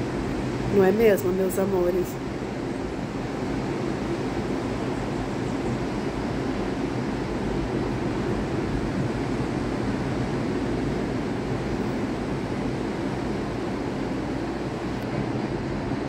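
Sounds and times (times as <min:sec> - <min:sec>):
ocean surf roar: 0:00.0 - 0:16.0.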